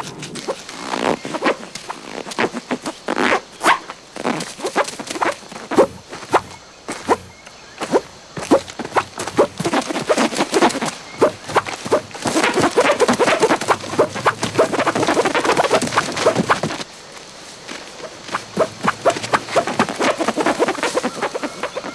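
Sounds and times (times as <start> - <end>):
footsteps crunching through leaves: 0.0 - 21.9
footsteps on paved road: 0.0 - 21.9.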